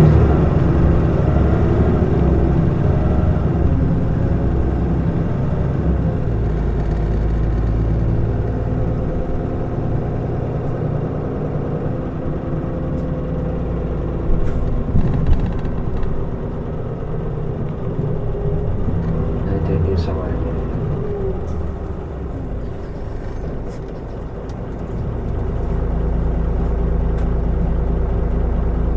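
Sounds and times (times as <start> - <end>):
bus diesel engine drone: 0.0 - 28.9.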